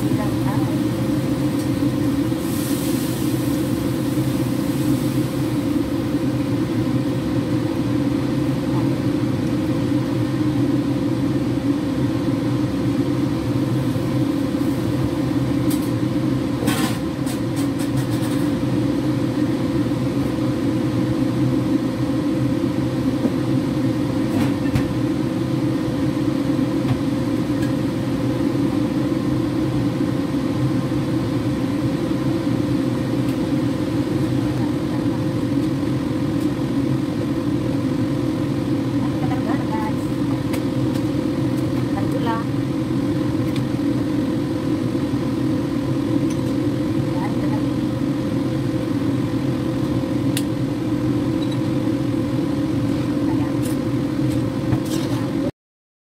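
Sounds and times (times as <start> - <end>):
steady low hum: 0.0 - 55.5.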